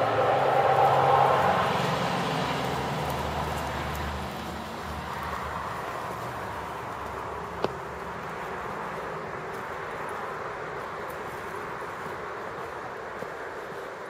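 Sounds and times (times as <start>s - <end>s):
passing vehicle rumble: 0.0s - 13.7s.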